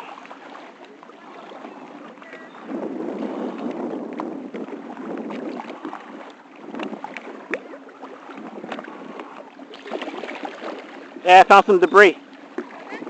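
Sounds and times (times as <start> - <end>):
water lapping around a kayak: 0.0 - 13.0.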